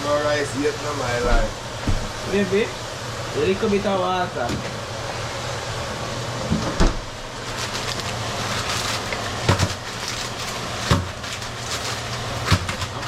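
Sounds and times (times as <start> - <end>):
stove hissing: 0.0 - 13.0.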